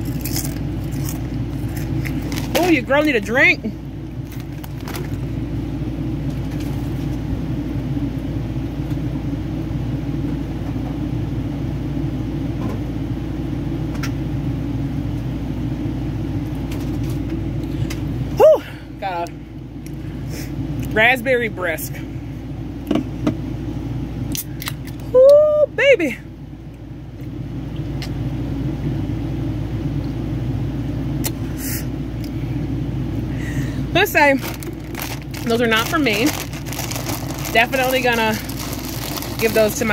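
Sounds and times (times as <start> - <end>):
low mechanical rumble with hum: 0.0 - 39.9.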